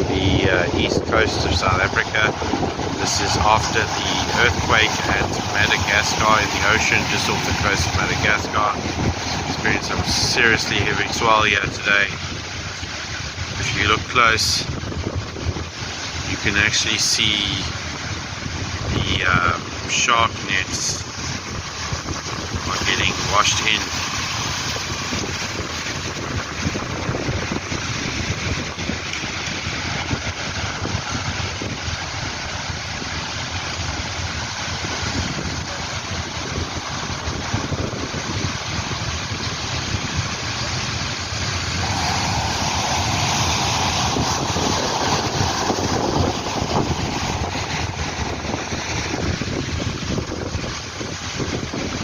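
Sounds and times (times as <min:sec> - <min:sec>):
waves breaking on shore: 0:00.0 - 0:52.0
wind buffeting microphone: 0:00.0 - 0:52.0.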